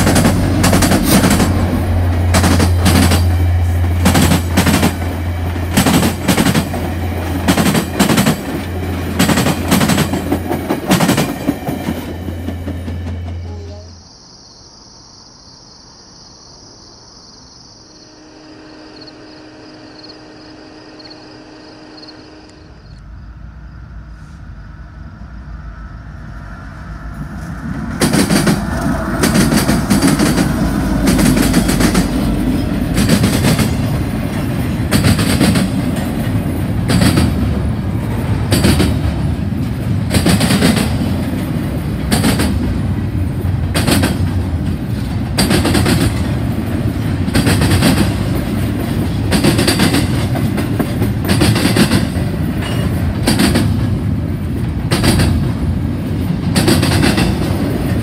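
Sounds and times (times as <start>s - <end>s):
freight cars rumbling past: 0.0s - 13.5s, 22.0s - 58.0s
locomotives passing: 0.0s - 13.9s, 22.4s - 58.0s.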